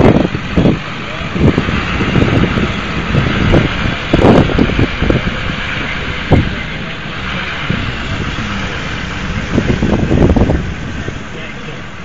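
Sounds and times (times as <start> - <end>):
wind on microphone: 0.0 - 7.0, 7.6 - 11.4
vehicle rumbling over rough track: 0.0 - 12.0.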